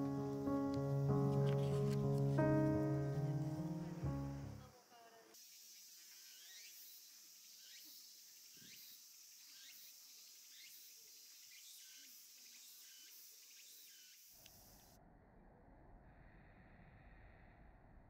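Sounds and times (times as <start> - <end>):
high insect-like hiss: 0.0 - 15.0.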